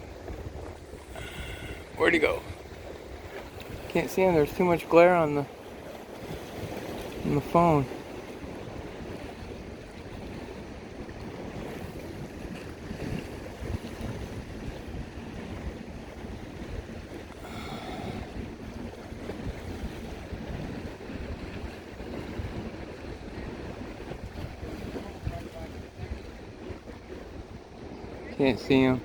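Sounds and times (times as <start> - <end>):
waves washing onto beach: 0.0 - 29.0
wind gusting against microphone: 0.0 - 29.0.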